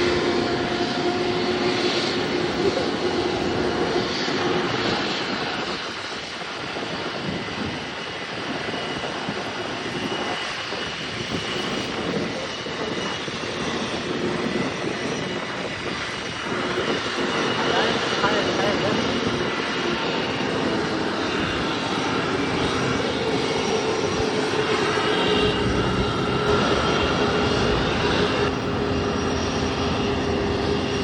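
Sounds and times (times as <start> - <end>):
airliner engines rushing: 0.0 - 31.0.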